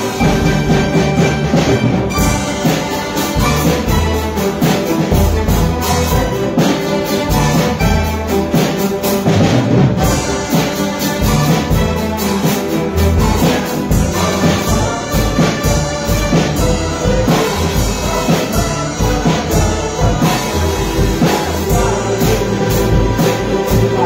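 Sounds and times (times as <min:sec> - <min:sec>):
double bass line: 0:00.0 - 0:24.0
plucked string ensemble: 0:00.0 - 0:24.0.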